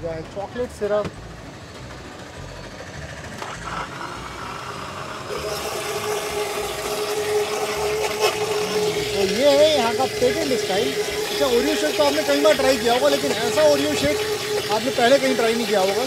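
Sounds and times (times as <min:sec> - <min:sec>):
blender motor whining: 0:02.9 - 0:16.0.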